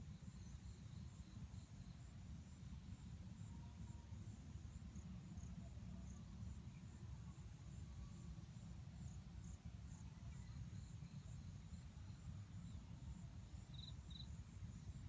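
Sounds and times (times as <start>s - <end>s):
high insect drone: 0.1s - 15.0s.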